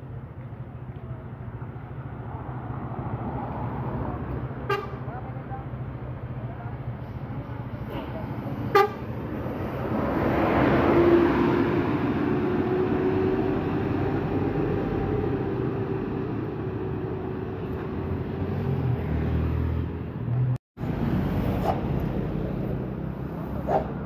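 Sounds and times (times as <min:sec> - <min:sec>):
deep vehicle rumble: 0:00.0 - 0:24.0.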